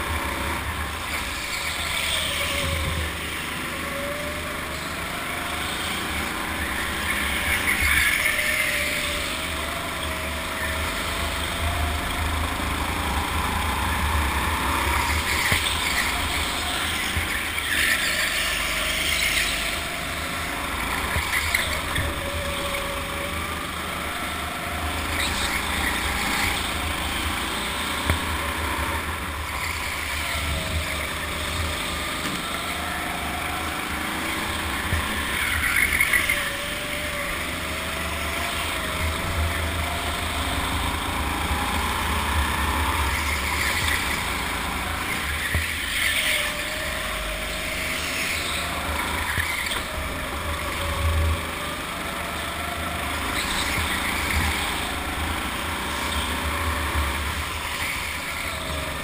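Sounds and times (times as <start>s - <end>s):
go-kart motor whine: 0.0s - 59.0s.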